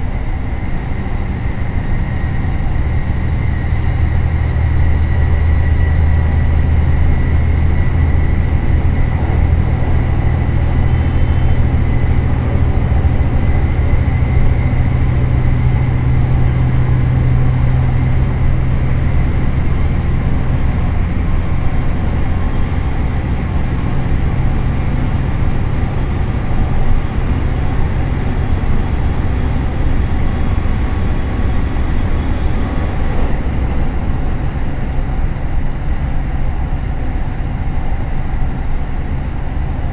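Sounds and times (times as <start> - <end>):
diesel engine droning: 0.0 - 39.9
high transmission gear whine: 0.0 - 39.9.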